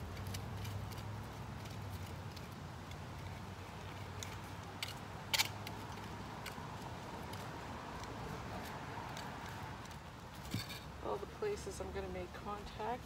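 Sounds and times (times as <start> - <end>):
rake tines clicking: 0.0 - 10.9.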